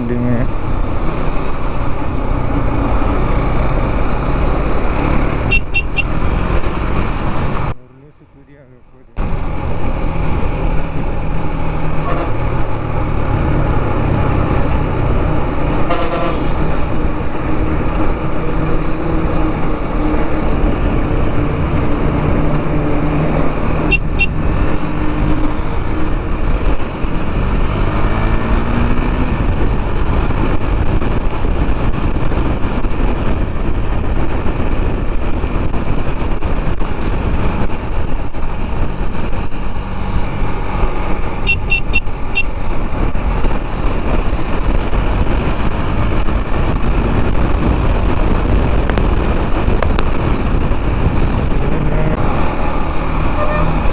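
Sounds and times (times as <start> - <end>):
motorcycle engine running: 0.0 - 7.7, 9.2 - 53.9
wind and road noise: 0.0 - 53.9.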